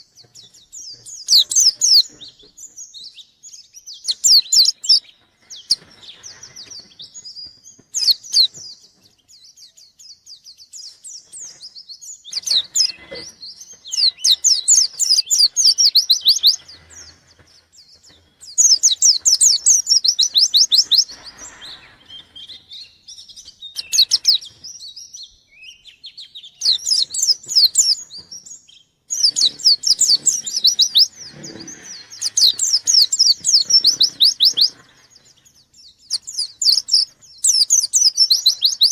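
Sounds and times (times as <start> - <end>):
bird chirping trills: 0.0 - 38.9.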